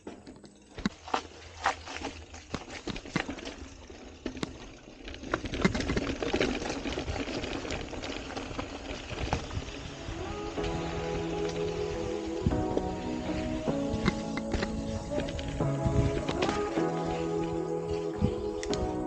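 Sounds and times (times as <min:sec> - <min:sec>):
bike knocks and rattles: 0:00.0 - 0:19.0
bike tyres crackling on gravel: 0:00.0 - 0:19.0.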